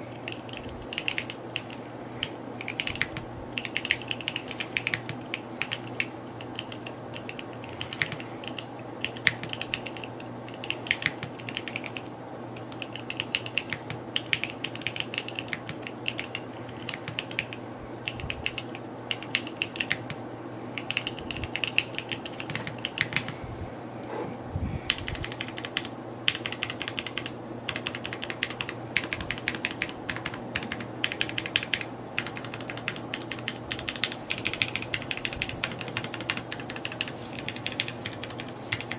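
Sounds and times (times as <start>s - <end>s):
mechanical keyboard typing: 0.1s - 20.2s, 20.8s - 23.4s, 24.9s - 38.9s.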